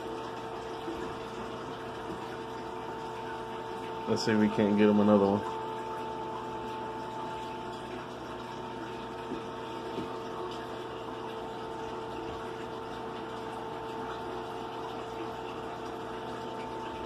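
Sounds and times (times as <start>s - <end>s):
aquarium filter pump running: 0.0s - 17.0s.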